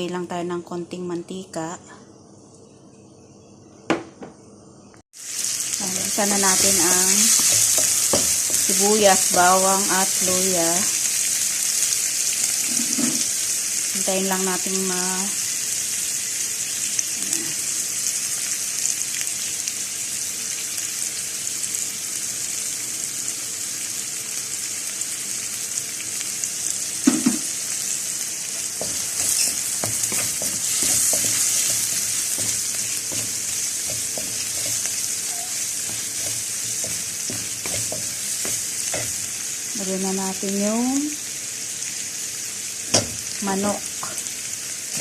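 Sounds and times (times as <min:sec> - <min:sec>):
vegetables sizzling in hot oil: 0:05.1 - 0:45.0.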